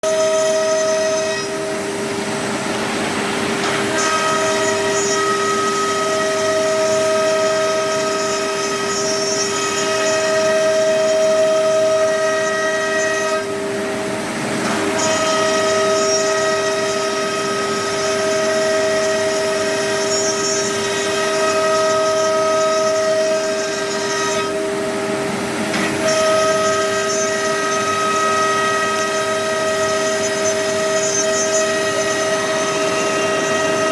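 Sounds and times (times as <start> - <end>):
router spindle high whine: 0.0 - 33.9.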